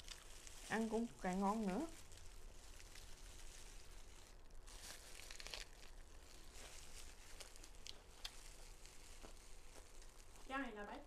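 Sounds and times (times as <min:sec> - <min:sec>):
lettuce leaves rustling: 0:00.0 - 0:11.0
plastic gloves crinkling: 0:00.0 - 0:11.0.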